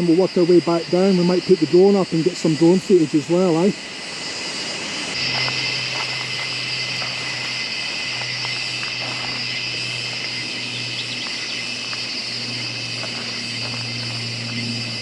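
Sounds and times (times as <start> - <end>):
drone propellers humming: 0.0 - 15.0
steady high hiss: 0.0 - 15.0.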